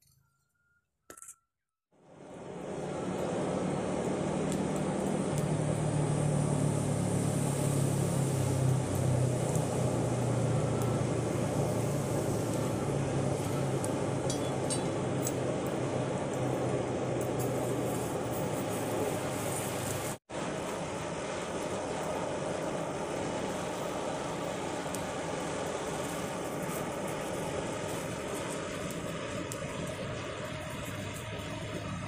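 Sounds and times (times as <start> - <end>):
low motor hum: 1.9 - 32.0
rush of air and flame: 1.9 - 32.0.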